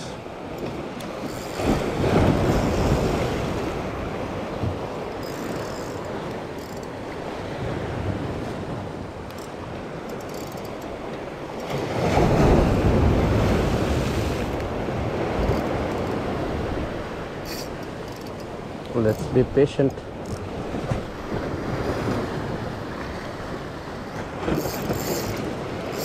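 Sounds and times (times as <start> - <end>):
waves breaking against rocks: 0.0 - 26.0.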